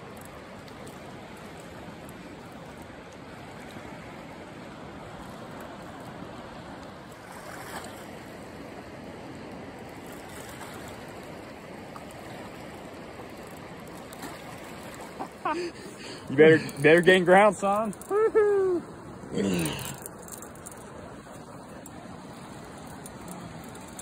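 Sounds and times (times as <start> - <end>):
river flowing over rocks: 0.0 - 24.0.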